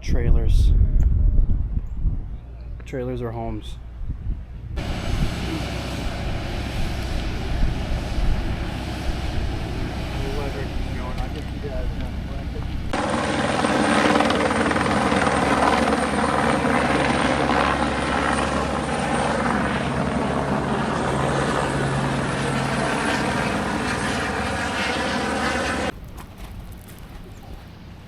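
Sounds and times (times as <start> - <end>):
helicopter flying close by: 4.8 - 28.0.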